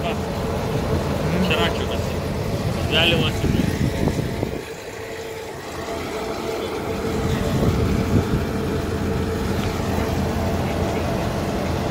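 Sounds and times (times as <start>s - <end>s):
tractor engine rumble: 0.0s - 11.9s.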